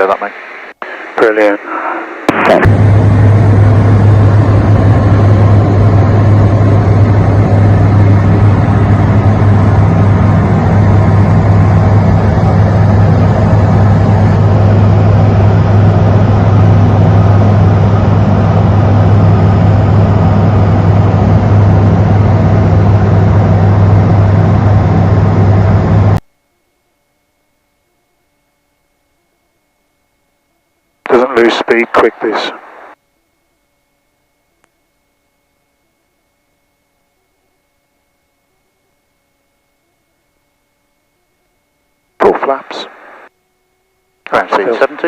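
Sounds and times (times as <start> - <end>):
propeller plane engine droning: 1.6 - 45.0.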